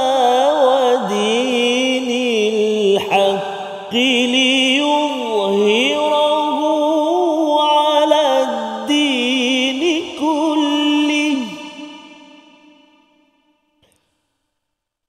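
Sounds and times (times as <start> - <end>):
man reciting in melodic chant: 0.0 - 13.0.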